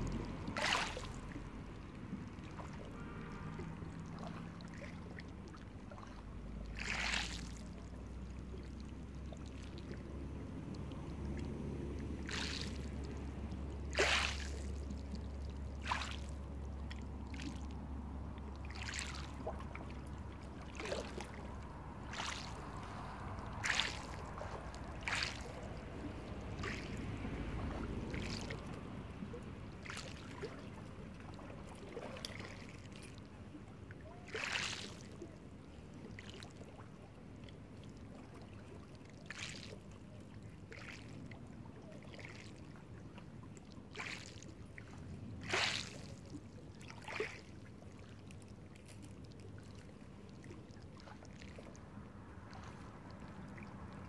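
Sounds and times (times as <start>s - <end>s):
small waves lapping on pebbles: 0.0s - 54.0s
water splashing over stones: 0.0s - 54.0s.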